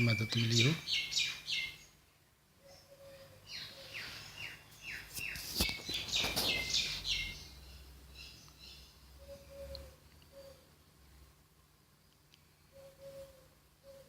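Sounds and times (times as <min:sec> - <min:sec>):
bird chirping: 0:00.0 - 0:10.8, 0:12.0 - 0:14.0.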